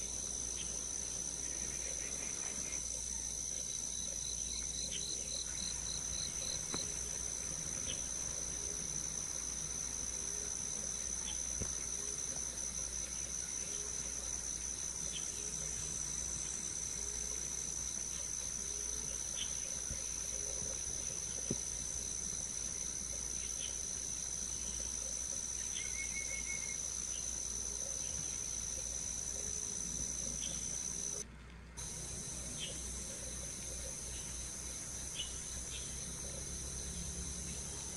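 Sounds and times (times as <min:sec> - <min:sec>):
high-pitched insect drone: 0:00.0 - 0:31.2, 0:31.8 - 0:37.9.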